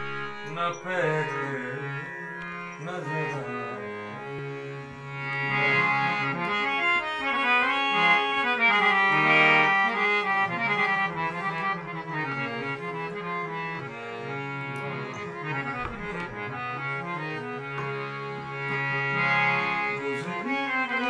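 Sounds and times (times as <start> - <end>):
harmonium melody: 0.0 - 21.0.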